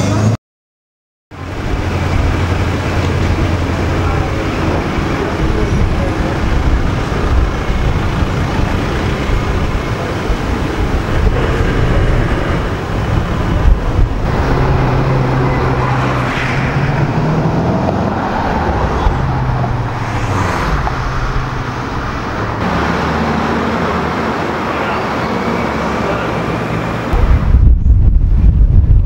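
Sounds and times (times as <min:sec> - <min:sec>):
car engine exhaust rumble: 0:01.3 - 0:29.0.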